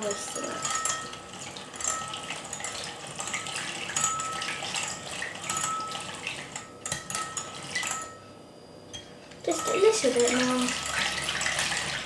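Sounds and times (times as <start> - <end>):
eggs being whisked: 0.0 - 8.2, 9.5 - 12.0.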